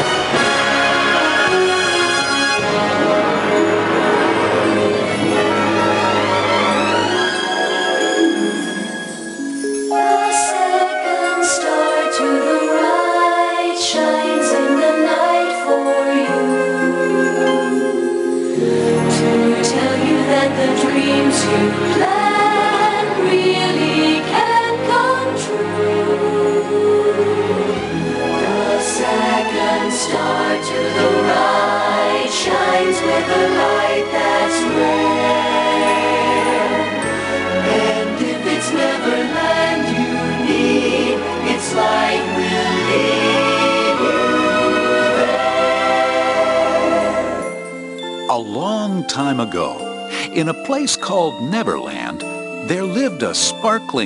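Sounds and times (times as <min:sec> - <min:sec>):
instrumental accompaniment: 0:00.0 - 0:54.0
show music with singing voices: 0:00.0 - 0:54.0.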